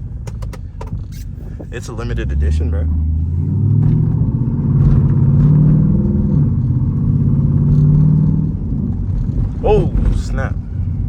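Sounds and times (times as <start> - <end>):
car engine accelerating: 1.6 - 11.0.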